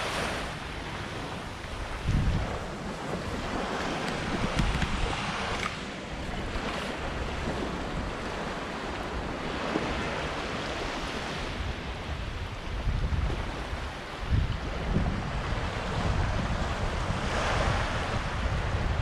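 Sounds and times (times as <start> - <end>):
sea waves breaking on beach: 0.0 - 19.0
wind gusting on microphone: 0.0 - 19.0.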